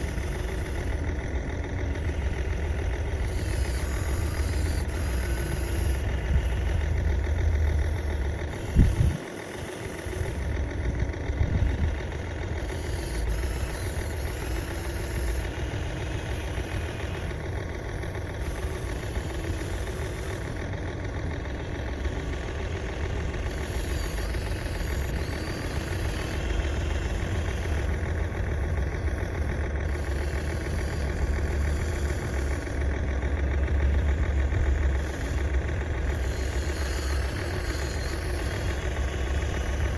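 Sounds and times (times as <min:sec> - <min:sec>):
model engine idling: 0:00.0 - 0:39.9.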